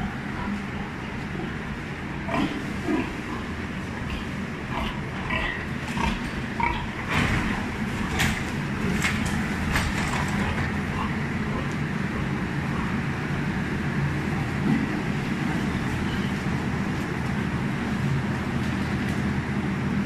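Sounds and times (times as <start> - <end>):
pigs grunting: 0.0 - 16.4
steady low rumble: 0.0 - 20.0.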